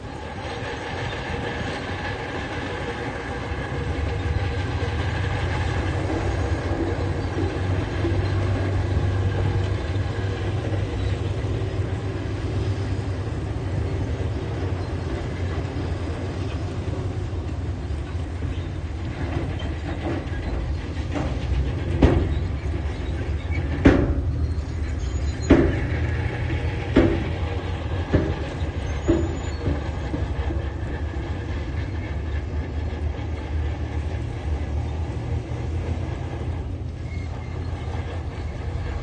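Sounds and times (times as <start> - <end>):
diesel engine under load: 0.0 - 39.0
steel crawler tracks clattering: 0.0 - 39.0.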